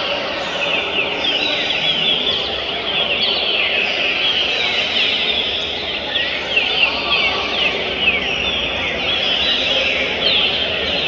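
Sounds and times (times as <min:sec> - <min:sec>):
background murmur: 0:00.0 - 0:11.0
birds whistling: 0:00.7 - 0:11.0.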